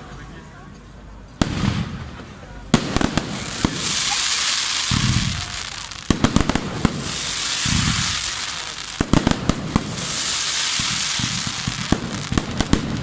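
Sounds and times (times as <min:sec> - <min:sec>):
fireworks crackling hiss: 0:01.3 - 0:13.0
fireworks bangs: 0:01.4 - 0:13.0.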